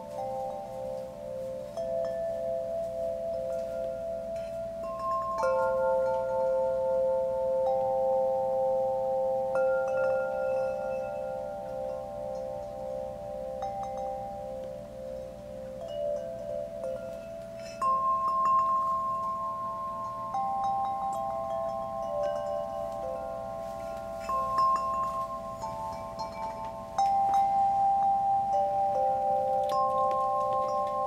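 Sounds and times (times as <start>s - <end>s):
wind chime ringing: 0.0s - 31.0s.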